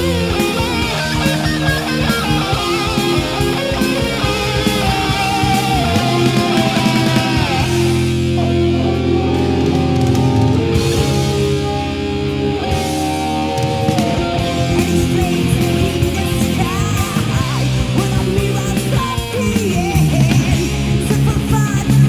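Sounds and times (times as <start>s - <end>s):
drums: 0.0s - 22.0s
electric guitar chords: 0.0s - 22.0s.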